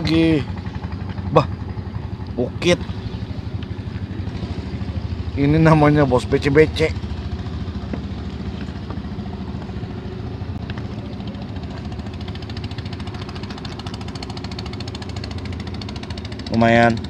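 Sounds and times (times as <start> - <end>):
engine idling with knock: 0.0 - 17.0.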